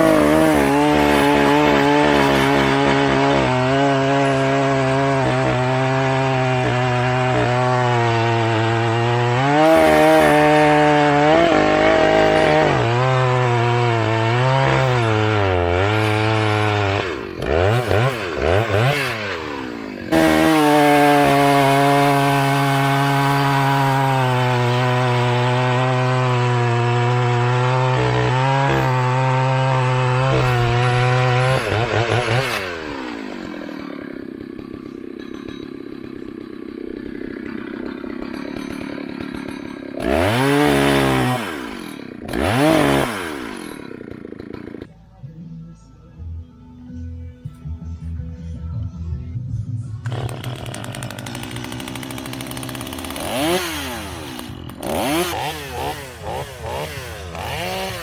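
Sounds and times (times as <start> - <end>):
chainsaw cutting wood: 0.0 - 44.9, 50.0 - 58.0.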